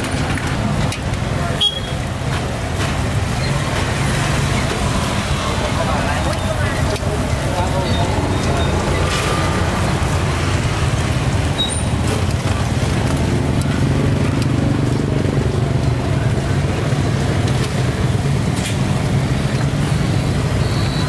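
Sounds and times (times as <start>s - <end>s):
low rumble of street traffic: 0.0s - 21.0s.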